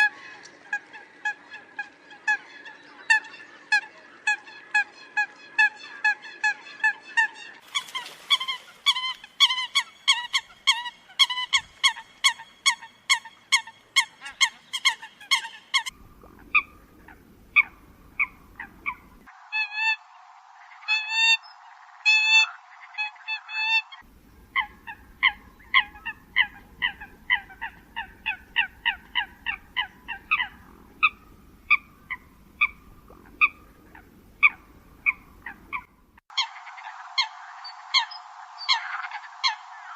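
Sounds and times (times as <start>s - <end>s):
coots honking calls: 0.0s - 20.0s, 22.1s - 36.6s.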